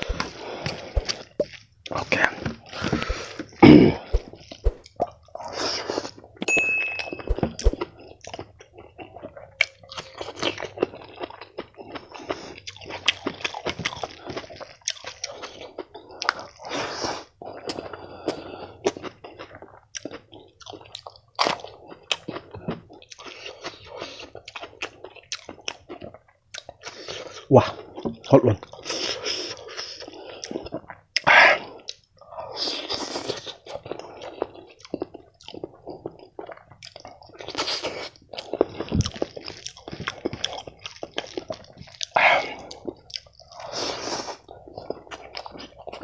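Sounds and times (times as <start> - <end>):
person chewing crunchy food: 0.0 - 6.4, 7.2 - 46.0.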